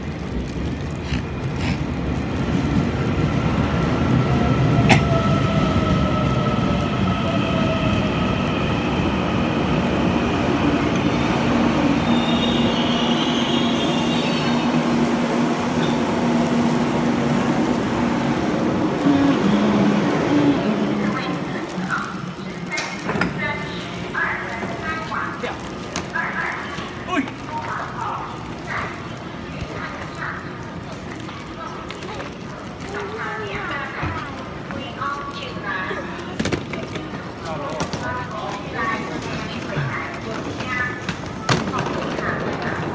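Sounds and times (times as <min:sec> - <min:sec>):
train rolling into station: 0:00.0 - 0:42.9.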